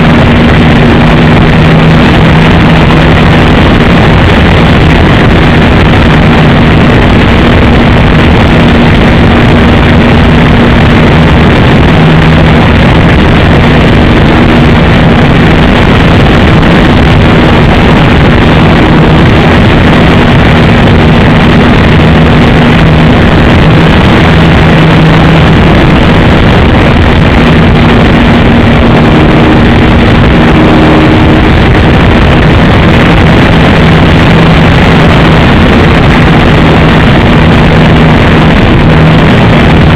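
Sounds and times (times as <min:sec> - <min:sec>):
distorted audio hiss: 0:00.0 - 0:39.9.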